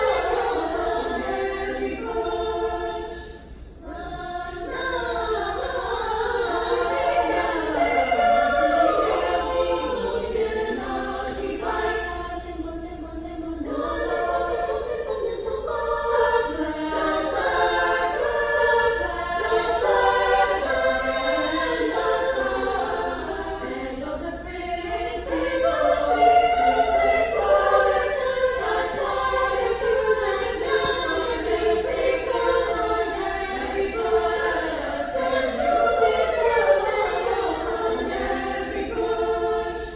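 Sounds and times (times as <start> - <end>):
female vocal ensemble singing: 0.0 - 39.9.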